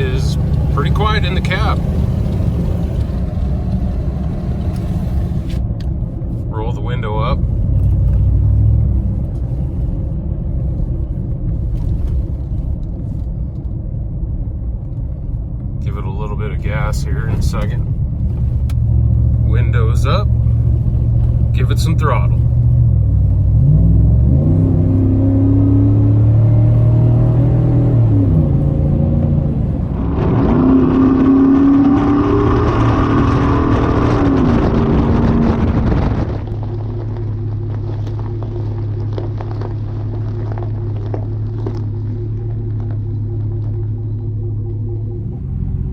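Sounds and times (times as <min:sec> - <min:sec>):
truck engine rumbling: 0:00.0 - 0:45.9.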